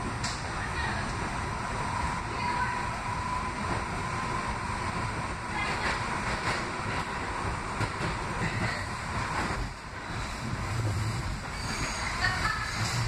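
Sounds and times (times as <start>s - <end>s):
subway wheels rumbling and rattling: 0.0s - 13.0s.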